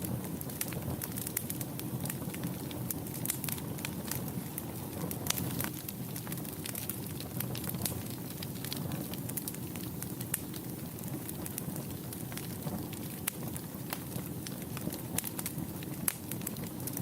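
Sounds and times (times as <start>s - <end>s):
fire crackles and pops: 0.0s - 17.0s
flames hissing and rumbling: 0.0s - 17.0s.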